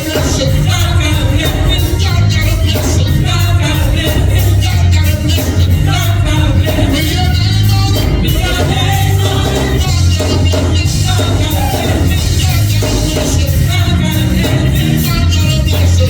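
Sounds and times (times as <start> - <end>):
gospel church band: 0.0 - 16.0
person singing: 0.0 - 16.0.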